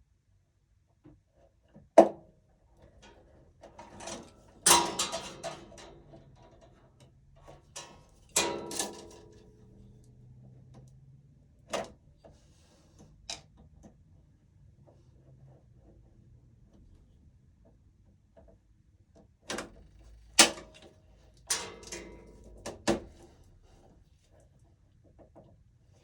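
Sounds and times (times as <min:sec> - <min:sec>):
clacks and rustling of cable: 0:02.7 - 0:26.0.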